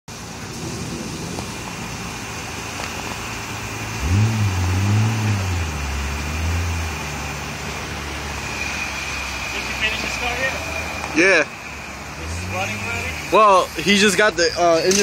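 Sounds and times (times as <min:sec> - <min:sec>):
car engine revving: 0:00.4 - 0:14.4.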